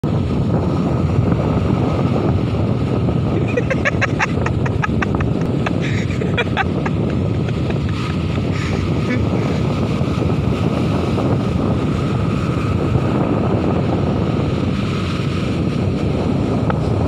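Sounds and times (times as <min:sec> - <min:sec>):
wind rumbling on microphone: 0:00.0 - 0:17.0
sea surf breaking on shore: 0:00.1 - 0:17.0.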